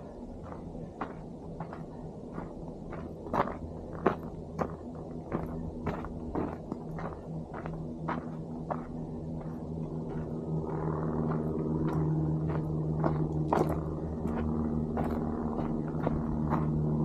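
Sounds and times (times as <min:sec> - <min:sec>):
engine humming: 0:00.0 - 0:17.0
footsteps clicking: 0:00.2 - 0:17.0.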